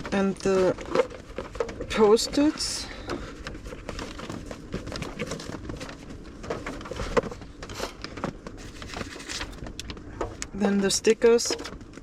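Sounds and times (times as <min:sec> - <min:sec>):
paper and plastic stationery rustling: 0:00.0 - 0:12.0.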